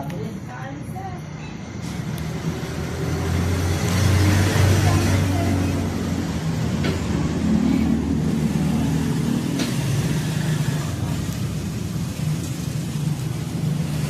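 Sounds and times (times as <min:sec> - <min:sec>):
small motorcycle engine running: 0:02.4 - 0:14.0.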